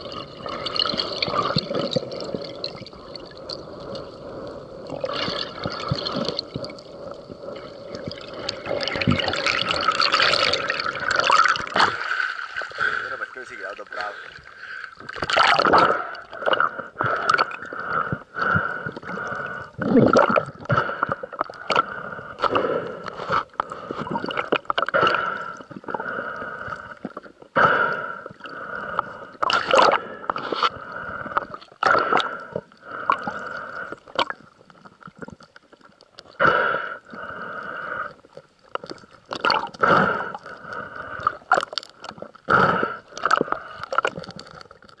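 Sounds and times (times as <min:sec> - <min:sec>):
gurgling water: 0:00.0 - 0:45.0.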